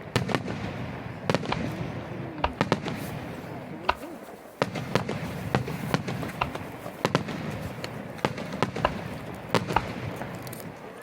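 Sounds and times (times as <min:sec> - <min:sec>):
aerial fireworks bursting: 0:00.0 - 0:11.0.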